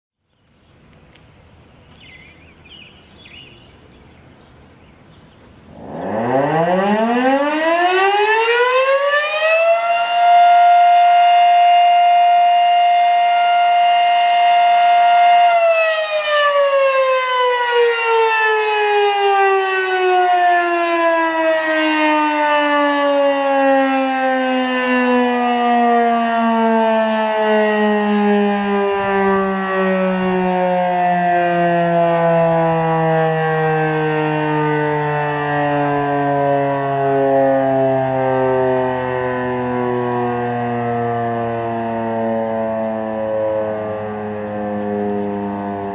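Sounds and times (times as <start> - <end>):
electromechanical siren wailing: 5.7 - 45.9.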